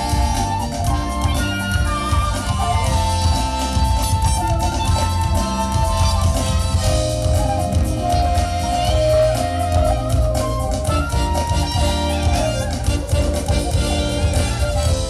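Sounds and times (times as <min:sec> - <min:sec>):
live jazz band playing: 0:00.0 - 0:15.0.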